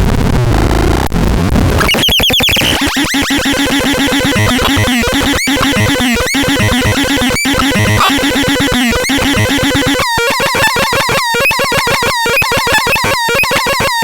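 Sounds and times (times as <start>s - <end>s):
repeating low synth notes: 1.8s - 13.8s
chirping synthesizer sweeps: 1.8s - 14.0s.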